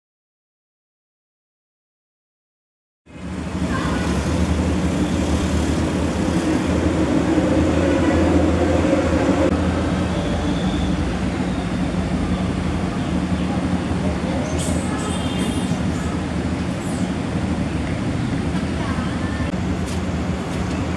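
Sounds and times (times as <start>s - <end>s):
traffic rumble: 3.1s - 20.9s.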